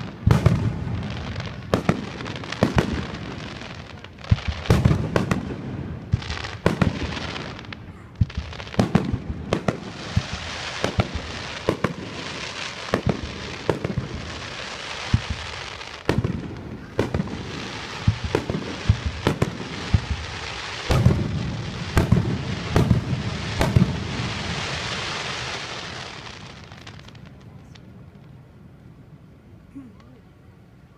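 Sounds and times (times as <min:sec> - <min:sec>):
fireworks bursting with bangs: 0:00.0 - 0:29.4
fireworks crackling hiss: 0:00.0 - 0:30.9.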